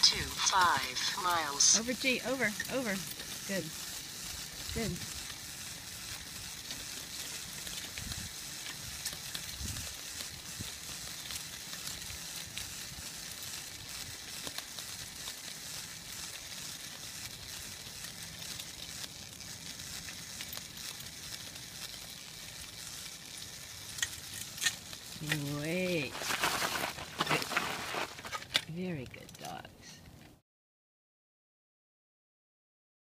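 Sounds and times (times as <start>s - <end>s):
tyres rolling on asphalt: 0.0s - 28.8s.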